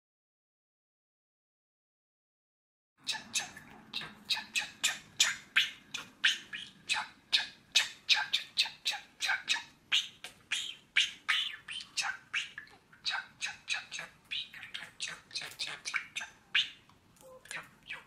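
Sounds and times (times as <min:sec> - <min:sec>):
budgerigar chattering: 0:03.0 - 0:18.0.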